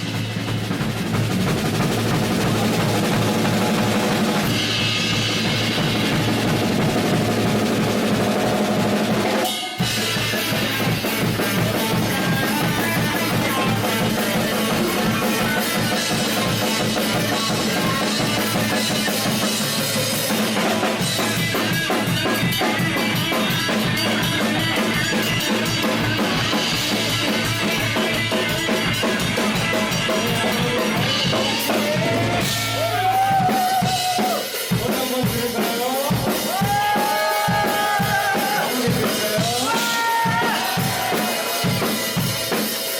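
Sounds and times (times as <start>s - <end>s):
kick and snare drum beat: 0.0s - 42.9s
live band music: 0.0s - 42.9s.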